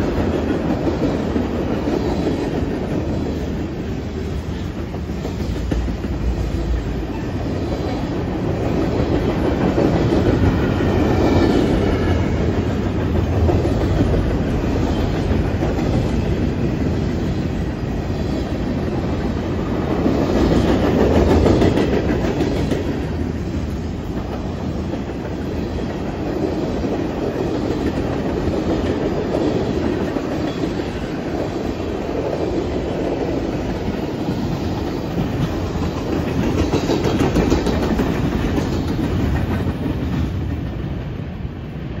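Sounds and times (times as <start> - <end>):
train wheels clattering on rails: 0.0 - 42.0.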